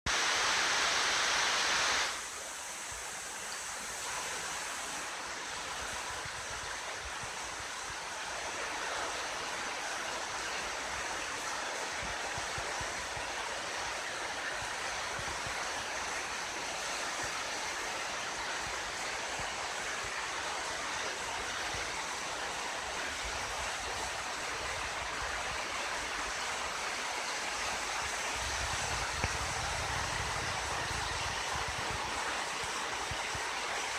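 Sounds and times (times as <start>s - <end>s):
river rushing: 0.1s - 33.9s.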